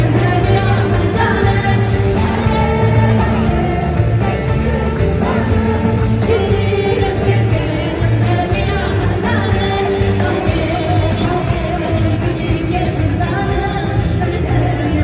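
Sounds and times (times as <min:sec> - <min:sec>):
band playing folk song: 0:00.0 - 0:15.0
bass notes: 0:00.0 - 0:15.0
woman singing: 0:00.0 - 0:15.0.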